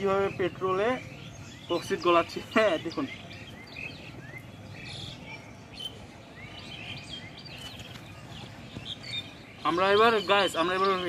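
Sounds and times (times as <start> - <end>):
small birds chirping: 0.0 - 11.0
steady low background noise: 0.0 - 11.0.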